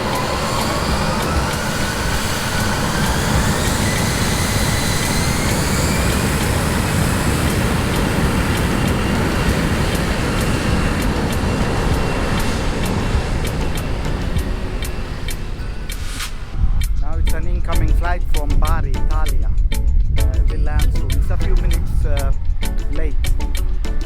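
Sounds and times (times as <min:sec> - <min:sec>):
jet engines roaring: 0:00.0 - 0:24.0
rising engine whines: 0:00.0 - 0:24.0.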